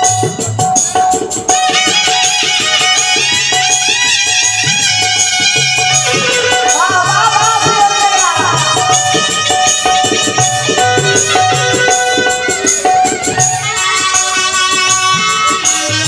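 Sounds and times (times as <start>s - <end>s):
folk band percussion and melody: 0.0s - 16.0s.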